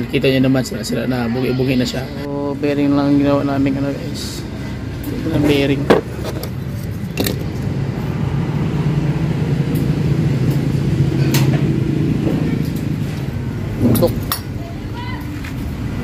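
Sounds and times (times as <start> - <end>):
vehicle engine humming: 1.9 - 16.0.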